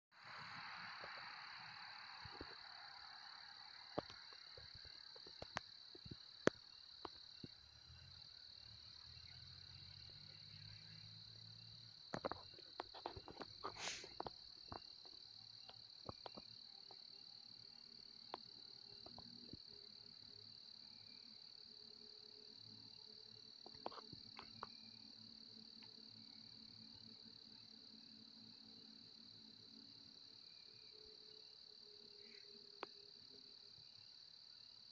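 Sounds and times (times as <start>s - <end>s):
crickets chirring: 0.2s - 34.9s.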